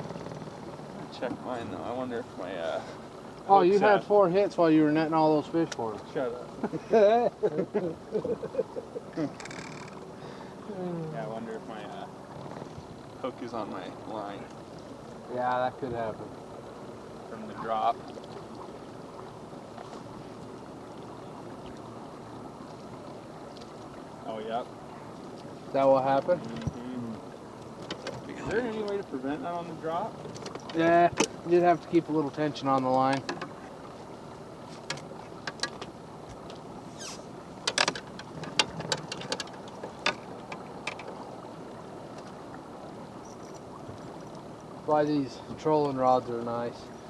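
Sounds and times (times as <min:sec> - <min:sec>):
boat motor droning: 0:00.0 - 0:47.0
water along hull: 0:00.0 - 0:47.0.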